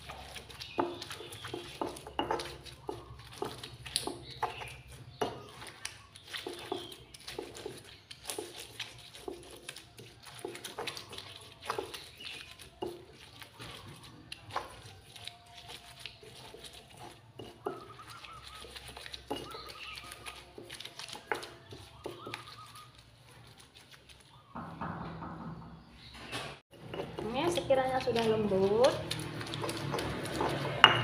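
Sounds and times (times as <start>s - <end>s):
stone pestle grinding in mortar: 0.0s - 25.5s, 26.7s - 31.0s.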